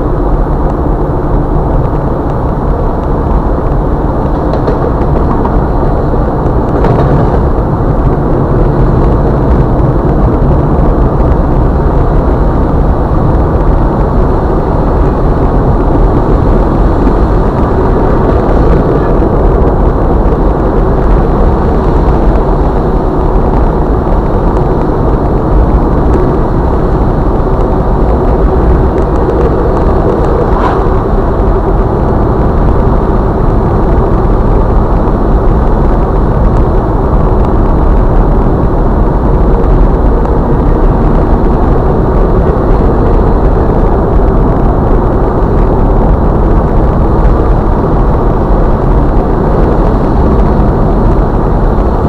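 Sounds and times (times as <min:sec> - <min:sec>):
muffled vehicle cabin drive noise: 0:00.0 - 0:52.0.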